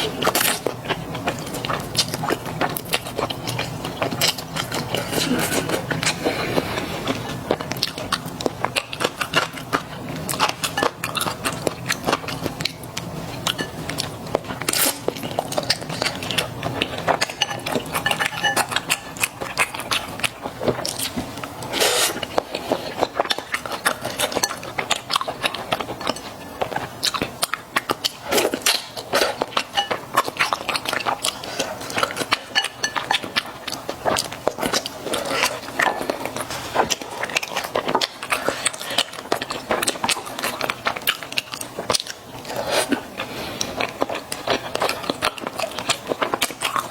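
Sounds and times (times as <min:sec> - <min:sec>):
wet chewing: 0:00.0 - 0:46.9.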